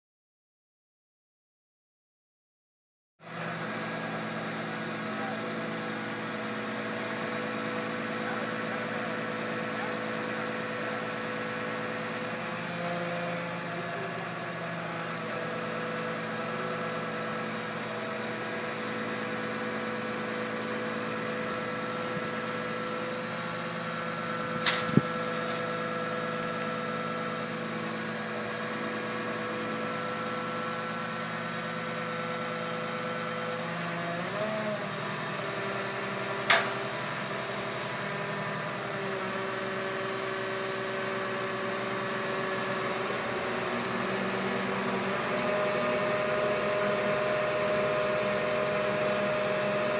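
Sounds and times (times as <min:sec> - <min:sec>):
diesel engine running: 0:03.2 - 0:49.9.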